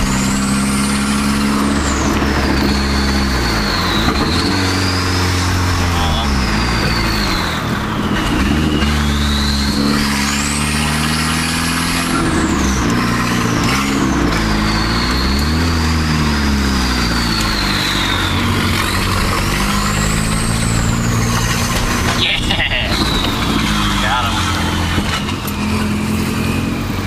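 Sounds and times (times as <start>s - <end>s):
car engine from inside cabin: 0.0s - 27.0s
high turbo whine: 0.0s - 27.0s
leaking exhaust rumble: 0.0s - 27.0s.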